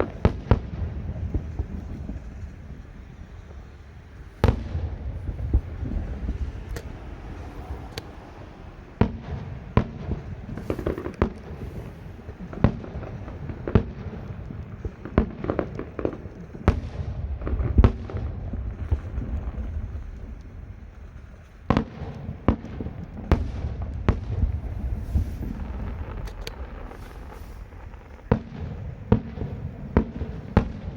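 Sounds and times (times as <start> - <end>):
continuous low rumble: 0.0 - 30.9
fireworks bangs: 0.0 - 30.9.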